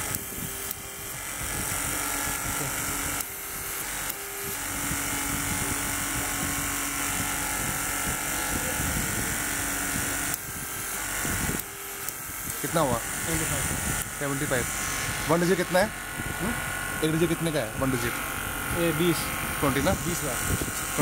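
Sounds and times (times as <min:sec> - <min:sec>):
hydraulic pump motor hum: 0:00.0 - 0:21.0.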